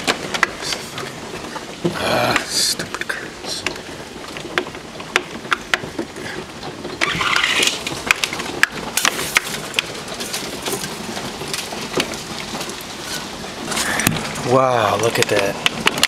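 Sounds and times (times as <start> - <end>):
hailstones knocking on house: 0.0 - 16.0
heavy rain hissing: 0.0 - 16.0.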